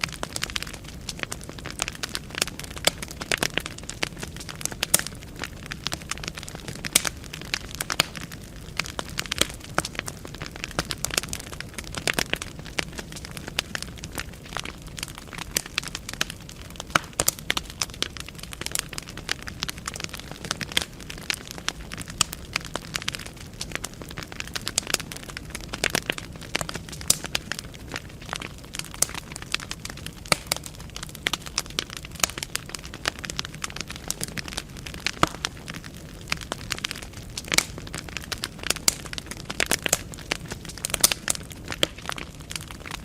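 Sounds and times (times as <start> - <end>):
low rumble of flame: 0.0 - 43.0
wood fire crackling and popping: 0.0 - 43.0.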